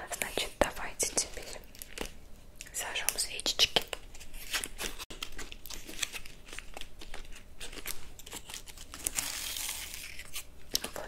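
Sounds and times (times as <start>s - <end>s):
crinkling and rustling: 0.1s - 11.0s.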